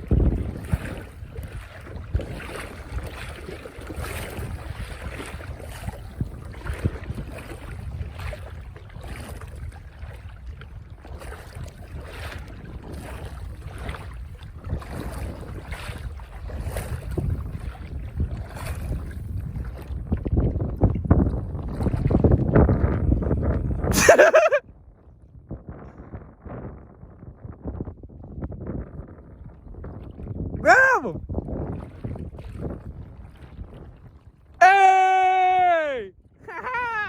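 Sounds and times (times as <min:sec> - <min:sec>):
wind buffeting microphone: 0:00.0 - 0:34.6.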